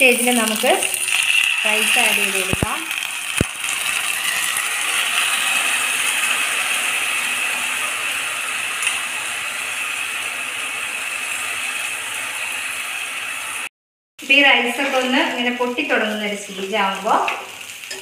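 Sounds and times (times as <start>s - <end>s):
rice sizzling in hot fat: 0.0s - 18.0s.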